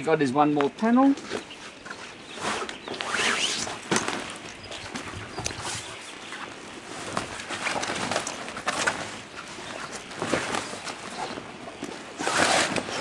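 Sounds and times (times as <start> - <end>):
canvas fabric rustling: 1.0 - 13.0.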